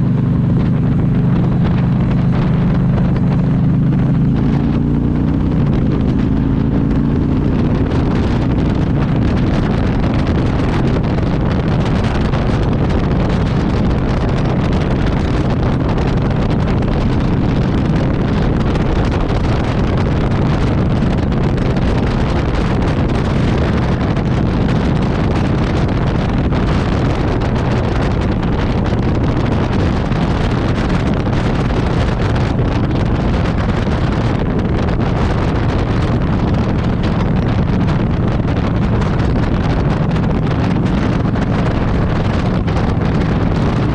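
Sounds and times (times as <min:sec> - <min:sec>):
vehicle running noise: 0:00.0 - 0:43.9
wind buffeting microphone: 0:00.0 - 0:43.9.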